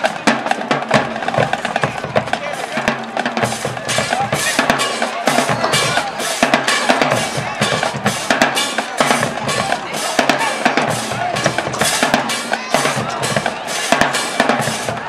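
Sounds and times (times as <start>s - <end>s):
drumline playing a cadence: 0.0s - 15.0s.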